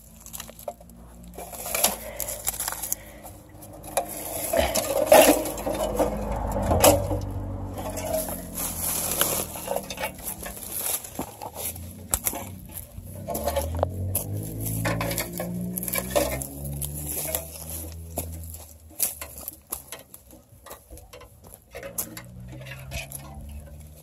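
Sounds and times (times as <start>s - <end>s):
footsteps on leaf litter: 0.0s - 6.4s, 7.0s - 22.1s
twigs and leaves rustling: 0.0s - 24.0s.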